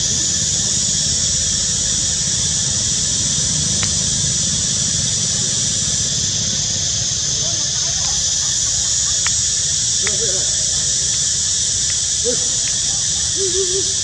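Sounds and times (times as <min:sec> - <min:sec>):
low rumble: 0:00.0 - 0:11.6
cicadas droning: 0:00.0 - 0:14.0.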